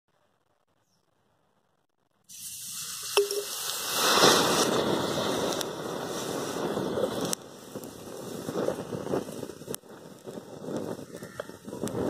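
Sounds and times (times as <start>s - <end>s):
chemical fire hissing and crackling: 2.1s - 12.0s.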